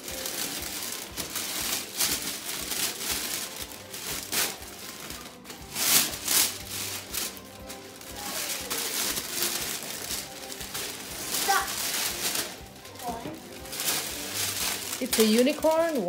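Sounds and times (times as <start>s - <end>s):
faint background music: 0.0s - 16.0s
wrapping paper crinkling and tearing: 0.0s - 16.0s.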